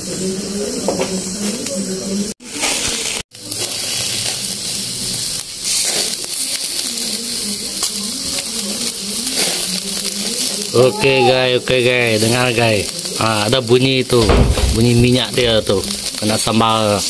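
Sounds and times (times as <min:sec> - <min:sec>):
dripping fat sizzling on fire: 0:00.0 - 0:17.0.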